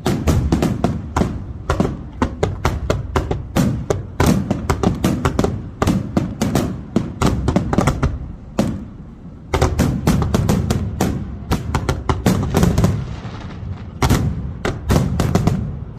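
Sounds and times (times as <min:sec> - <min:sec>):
deep continuous rumble: 0:00.0 - 0:15.9
fireworks bangs: 0:00.0 - 0:15.9.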